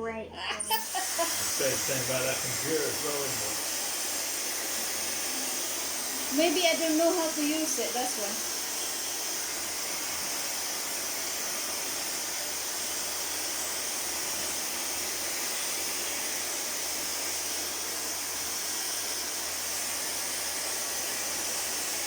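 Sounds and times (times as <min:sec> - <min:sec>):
hair dryer blowing: 0:00.5 - 0:22.0.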